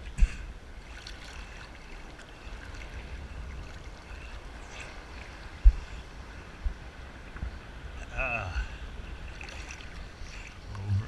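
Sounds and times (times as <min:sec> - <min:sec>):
sea water sloshing: 0:00.0 - 0:11.0
wind rumbling on microphone: 0:00.0 - 0:11.0.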